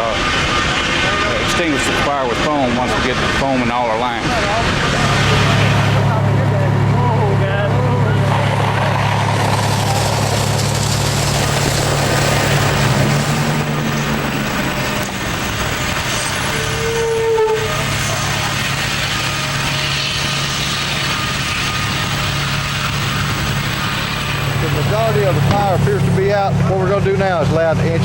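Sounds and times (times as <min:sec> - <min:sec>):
constant rushing hiss: 0:00.0 - 0:26.6
diesel engine running: 0:00.0 - 0:28.0.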